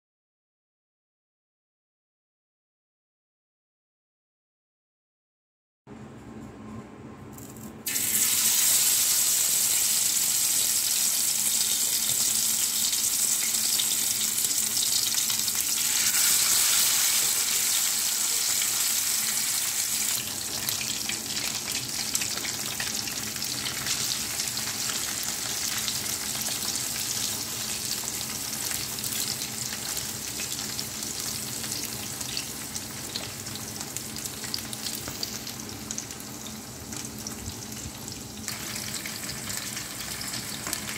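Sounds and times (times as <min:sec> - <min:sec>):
fish sizzling in hot oil: 0:07.9 - 0:40.9.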